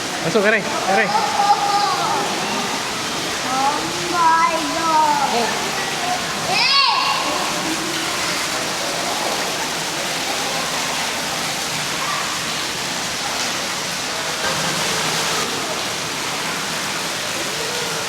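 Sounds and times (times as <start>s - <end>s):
faint voices: 0.0s - 18.0s
falling water rushing: 0.0s - 18.0s.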